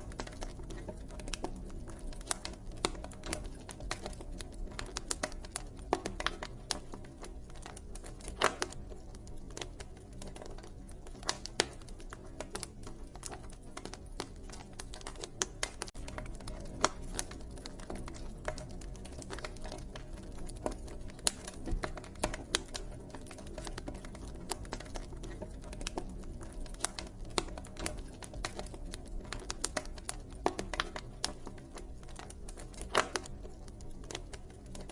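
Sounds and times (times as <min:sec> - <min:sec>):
fire pops: 0:00.0 - 0:34.9
wood fire crackling: 0:00.0 - 0:34.9.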